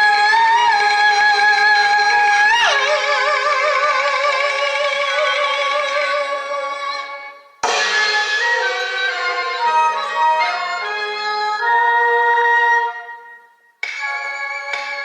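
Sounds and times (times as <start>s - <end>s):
opera singing with vibrato: 0.0s - 13.0s.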